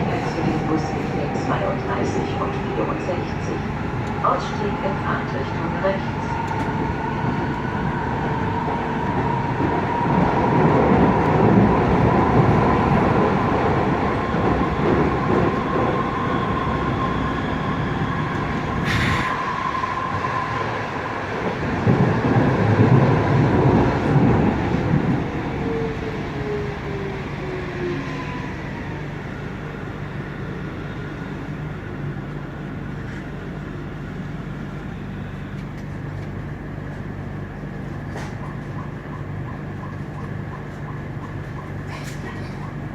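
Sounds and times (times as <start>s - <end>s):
train wheel and rail rumble: 0.0s - 42.9s.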